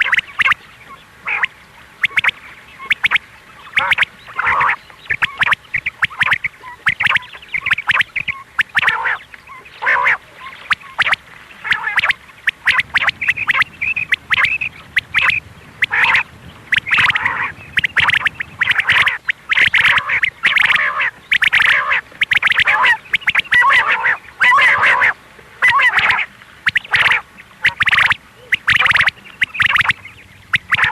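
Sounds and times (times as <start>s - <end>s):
quail rasping calls: 0.0s - 30.9s.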